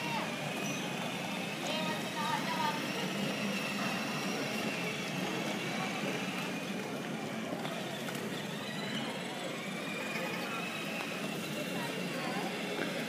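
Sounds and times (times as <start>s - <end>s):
electric motor whine: 0.0s - 13.0s
toy cars whirring over tiles: 0.0s - 13.0s.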